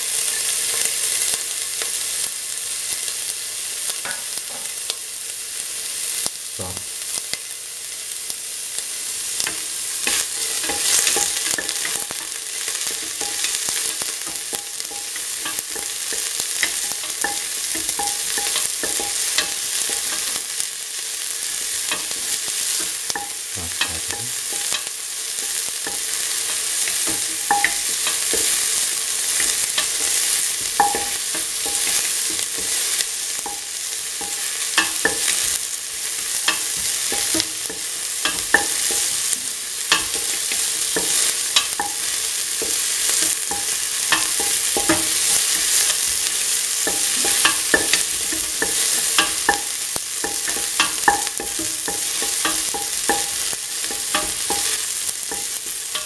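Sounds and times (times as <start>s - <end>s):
onions sizzling in hot oil: 0.0s - 56.0s.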